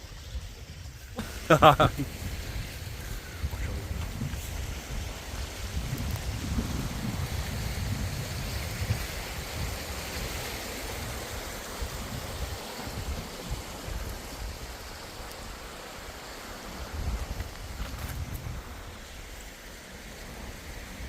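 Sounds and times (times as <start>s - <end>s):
stream water rushing: 0.0s - 21.0s
wind rumble on microphone: 0.0s - 21.0s.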